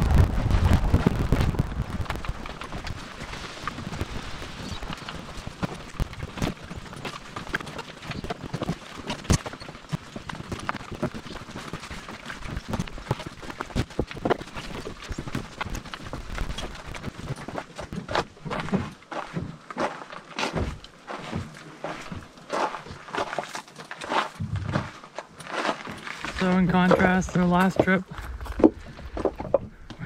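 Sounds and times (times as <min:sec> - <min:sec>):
footsteps on dirt trail: 0:00.0 - 0:30.0.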